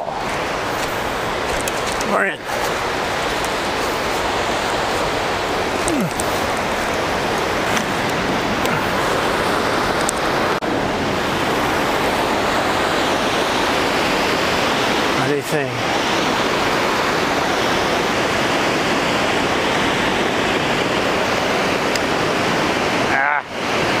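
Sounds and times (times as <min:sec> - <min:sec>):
river water over rocks: 0:00.0 - 0:24.0.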